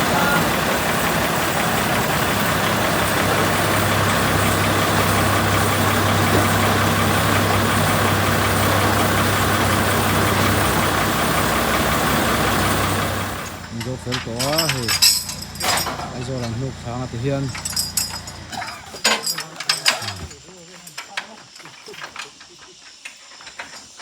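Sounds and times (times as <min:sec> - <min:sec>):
truck engine droning: 0:00.0 - 0:20.5.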